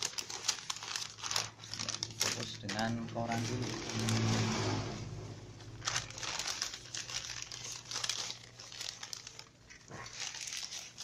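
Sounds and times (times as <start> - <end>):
newspaper crinkling and rustling: 0.0 - 4.8, 5.7 - 11.0.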